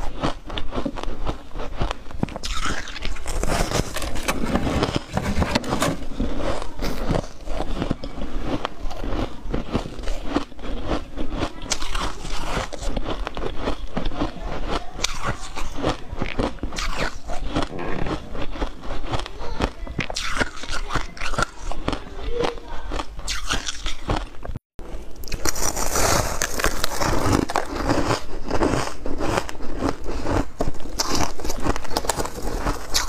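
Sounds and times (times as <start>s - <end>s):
person crunching ice: 0.0s - 33.0s.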